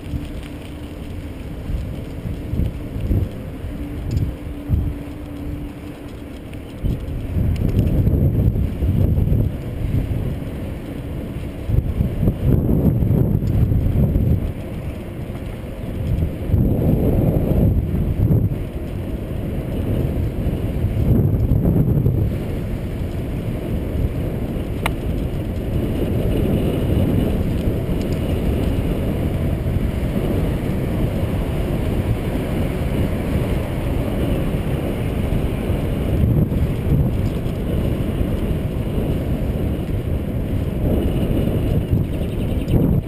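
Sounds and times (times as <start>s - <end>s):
bicycle tyres on asphalt: 0.0s - 43.0s
wind buffeting microphone: 0.0s - 43.0s.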